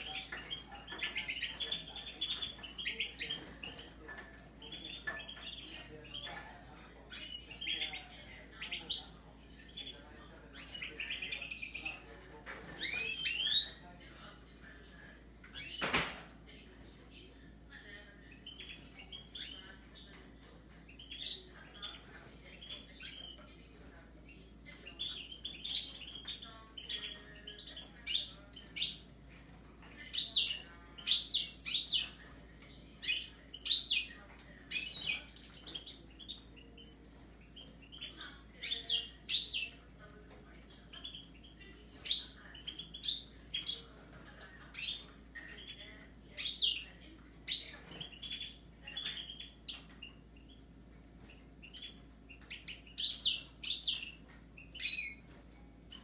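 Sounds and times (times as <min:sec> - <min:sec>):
caged birds twittering: 0:00.0 - 0:56.0.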